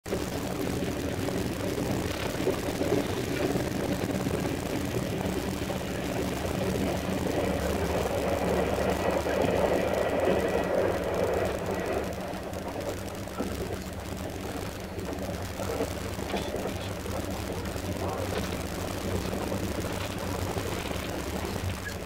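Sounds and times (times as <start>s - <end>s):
train cabin rumble and hum: 0.0s - 22.0s.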